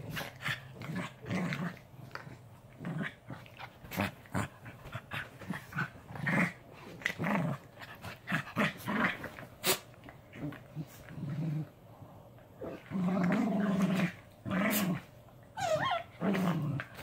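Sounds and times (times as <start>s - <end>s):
puppies growling: 0.0s - 17.0s.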